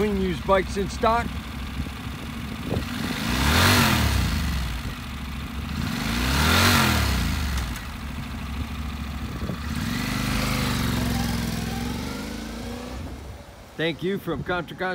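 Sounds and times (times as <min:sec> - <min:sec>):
motorcycle engine idling and revving: 0:00.0 - 0:14.9.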